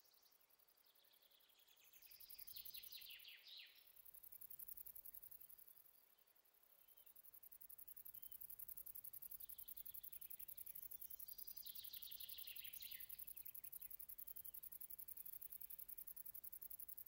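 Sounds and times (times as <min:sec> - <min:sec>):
bush-cricket stridulating: 0:00.1 - 0:17.0.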